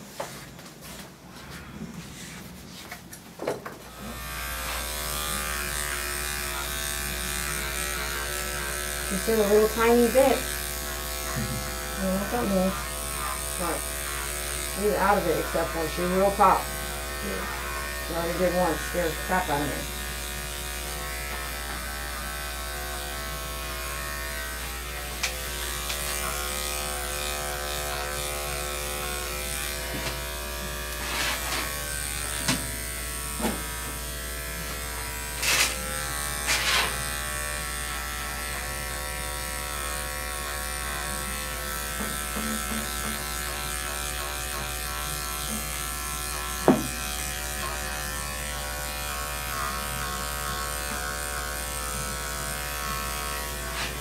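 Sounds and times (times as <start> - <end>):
electric clipper buzzing: 3.5 - 54.0.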